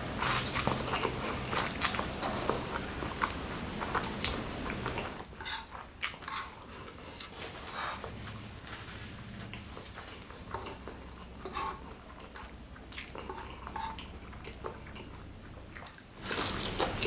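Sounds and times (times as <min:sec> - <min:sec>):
biting and chewing noodles: 0:00.1 - 0:17.0.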